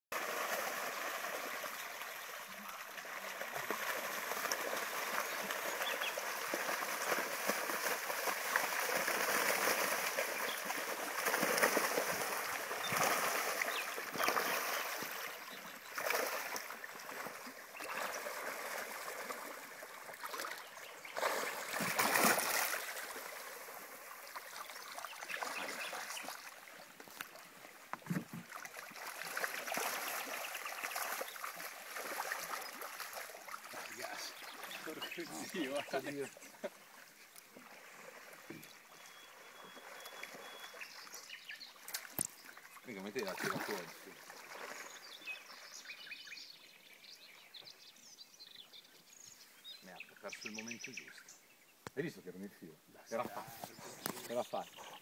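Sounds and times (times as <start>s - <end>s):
carp splashing in shallow water: 0.2s - 45.6s.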